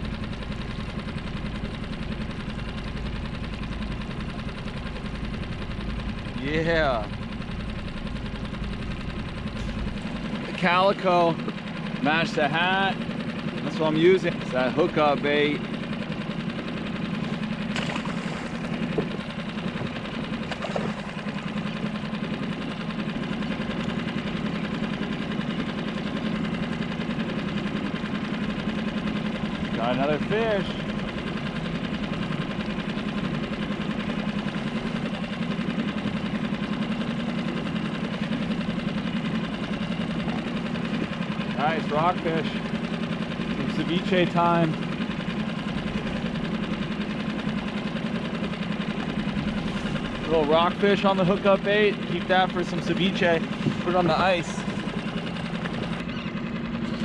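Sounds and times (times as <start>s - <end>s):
outboard motor idling: 0.0s - 57.0s.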